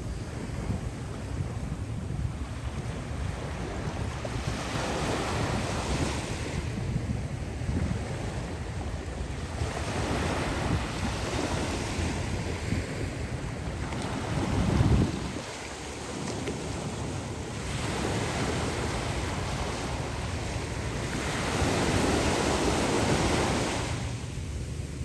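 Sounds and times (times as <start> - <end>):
ocean waves breaking on shore: 0.0 - 25.0
wind buffeting microphone: 0.0 - 25.0.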